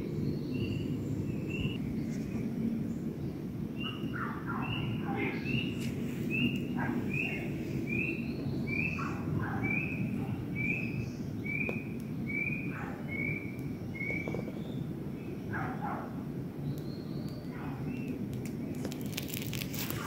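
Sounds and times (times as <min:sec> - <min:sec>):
steady low background noise: 0:00.0 - 0:20.0.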